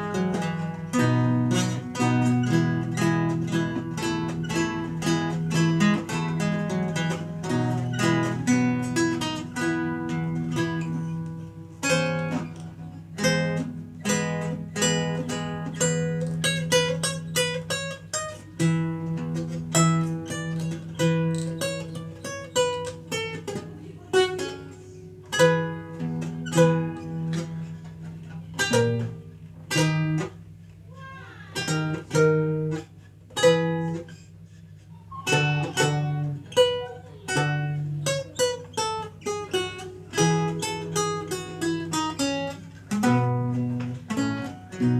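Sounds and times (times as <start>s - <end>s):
solo lute playing: 0.0s - 30.6s, 31.5s - 44.9s.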